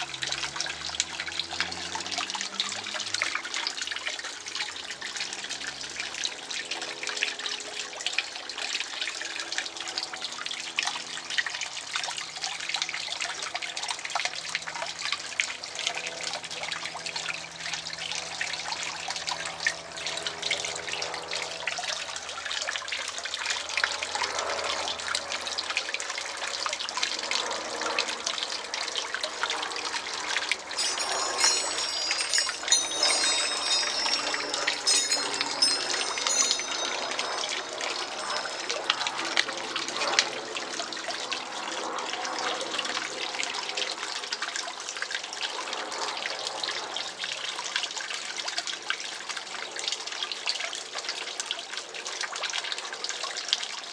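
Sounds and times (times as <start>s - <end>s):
water trickling and splashing: 0.0s - 53.9s.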